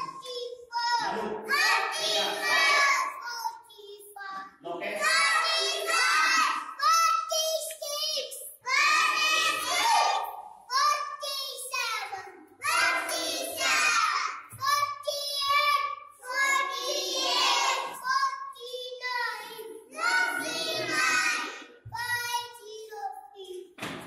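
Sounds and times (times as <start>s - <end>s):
boy chanting: 0.0s - 23.8s.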